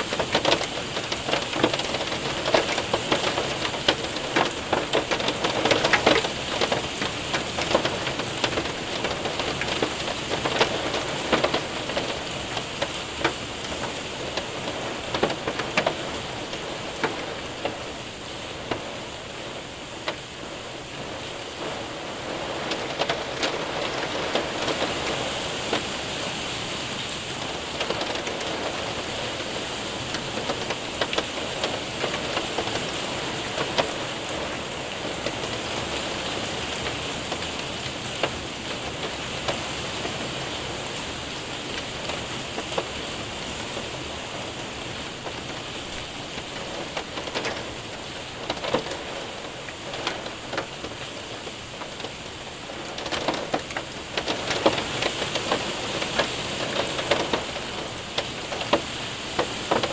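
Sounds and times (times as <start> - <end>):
hailstones ticking: 0.0 - 59.9
rain pattering on roof: 0.0 - 59.9.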